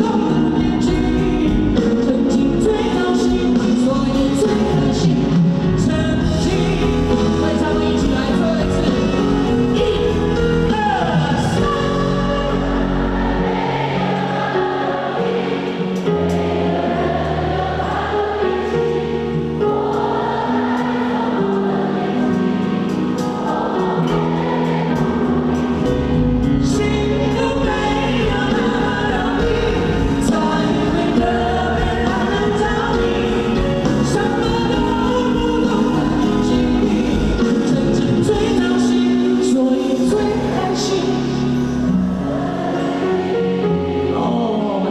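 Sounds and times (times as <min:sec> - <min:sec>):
live band accompaniment: 0:00.0 - 0:44.9
voices singing together: 0:00.0 - 0:44.9.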